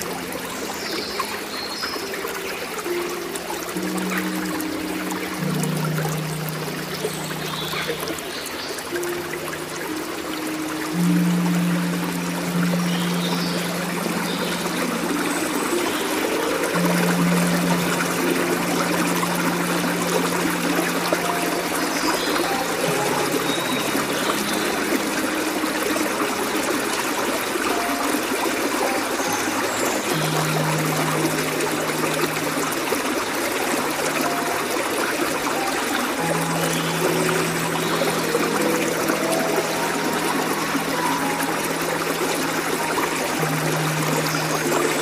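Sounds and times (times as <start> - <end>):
soft background music: 0.0 - 45.0
stream trickling and splashing: 0.0 - 45.0.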